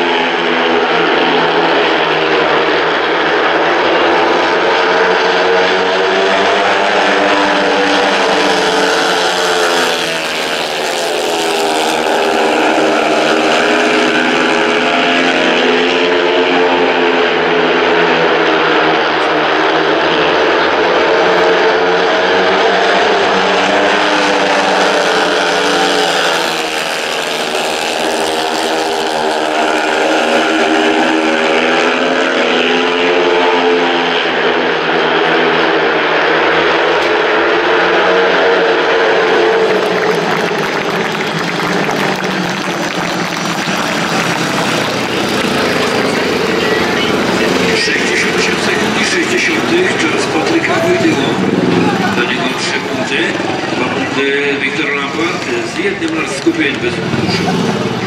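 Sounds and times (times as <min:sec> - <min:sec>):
motorcycles racing: 0:00.0 - 0:58.0.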